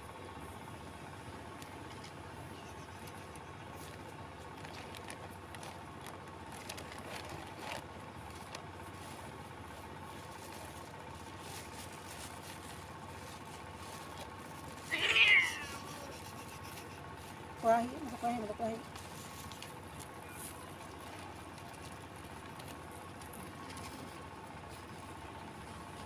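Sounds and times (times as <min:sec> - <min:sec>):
faint constant hum: 0:00.0 - 0:26.0
low background rumble: 0:00.0 - 0:26.0
rustles and clicks: 0:01.5 - 0:26.0.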